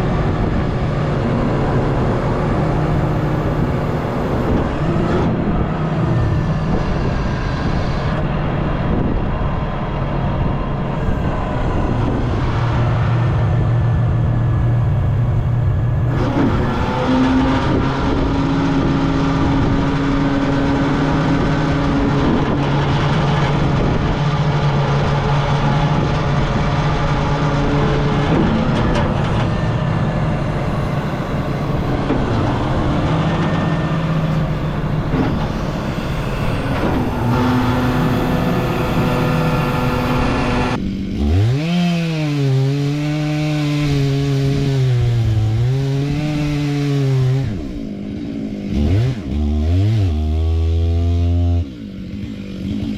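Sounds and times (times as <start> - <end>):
heavy machinery engine and hydraulics: 0.0 - 52.9
saw-like drone: 0.0 - 52.9.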